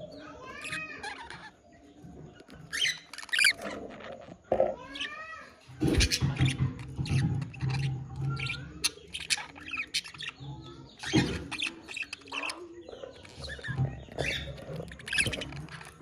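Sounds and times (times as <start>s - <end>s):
budgerigars chirping and warbling: 0.0s - 16.0s.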